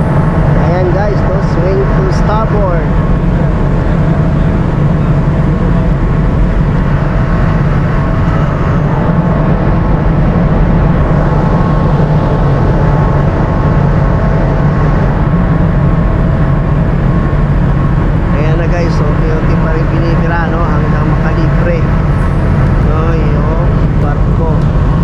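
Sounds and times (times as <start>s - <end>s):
marine diesel engines rumbling: 0.0s - 25.0s.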